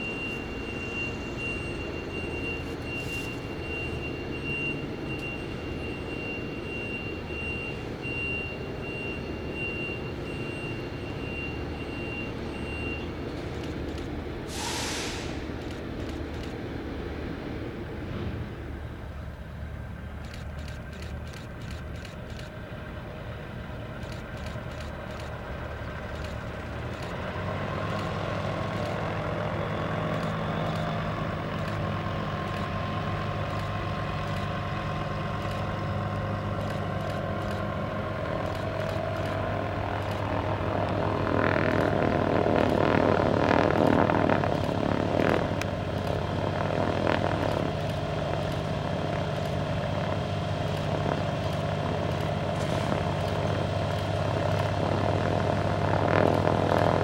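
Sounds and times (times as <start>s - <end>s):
propeller plane engines humming: 0.0s - 57.0s.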